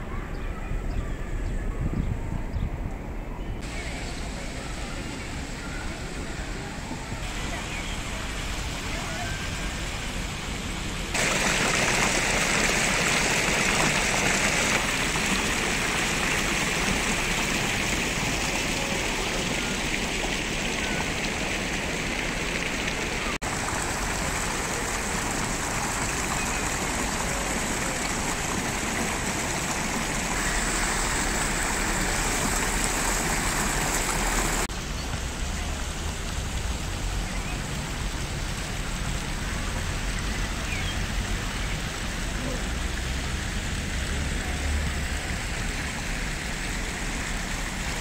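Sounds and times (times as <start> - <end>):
fountain water splashing: 3.6 - 48.0.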